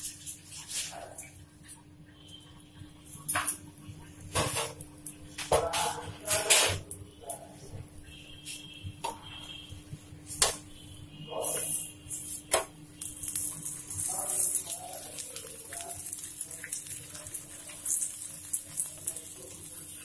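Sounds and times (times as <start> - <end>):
flatbread sizzling in oil: 0.0 - 20.0.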